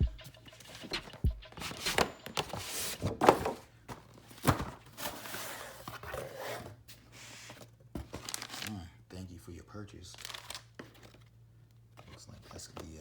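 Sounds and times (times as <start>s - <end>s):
packaging rustling: 0.4s - 8.8s, 10.0s - 12.9s.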